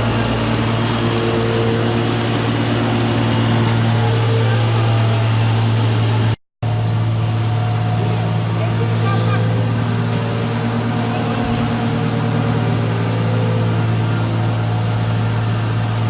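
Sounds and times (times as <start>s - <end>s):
machine humming and whirring: 0.0s - 16.0s.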